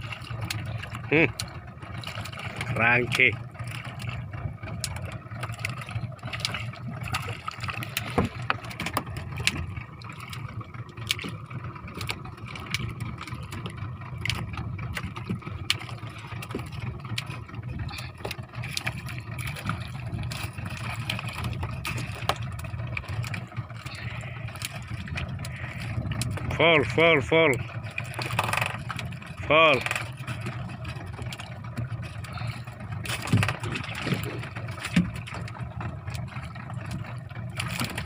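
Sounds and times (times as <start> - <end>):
boat engine droning: 0.0 - 38.0.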